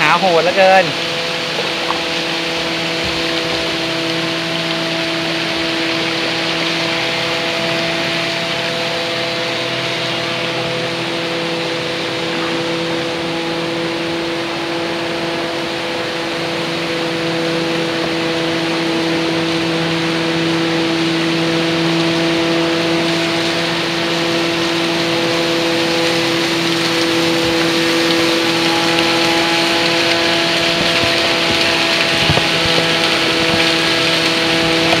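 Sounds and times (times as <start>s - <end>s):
low hum: 0.0s - 35.0s
stream water rushing over rapids: 0.0s - 35.0s.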